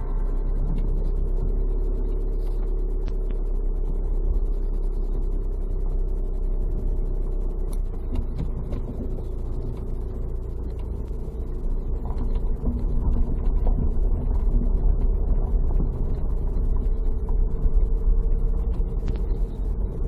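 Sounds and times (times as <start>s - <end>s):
car engine and road rumble: 0.0s - 20.0s
small clicks and rattles: 0.0s - 20.0s.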